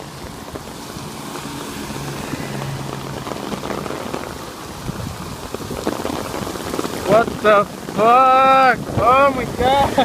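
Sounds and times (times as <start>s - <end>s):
heavy rain pouring: 0.0s - 10.0s
wind: 0.0s - 10.0s.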